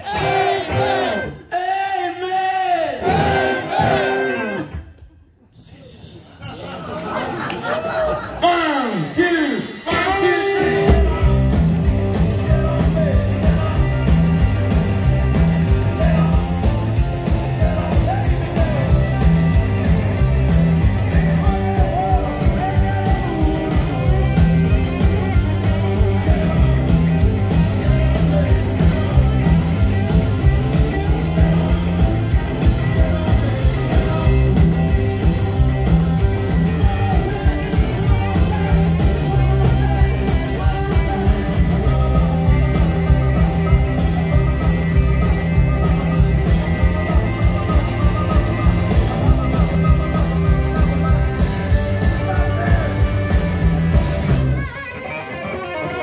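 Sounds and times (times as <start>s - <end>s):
rock band playing: 0.0s - 5.2s, 7.0s - 56.0s.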